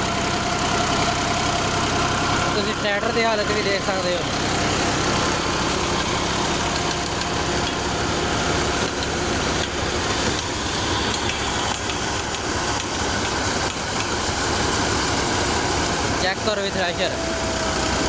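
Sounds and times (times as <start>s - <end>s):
thresher mechanical rush: 0.0s - 18.0s
tractor engine droning: 0.0s - 18.0s.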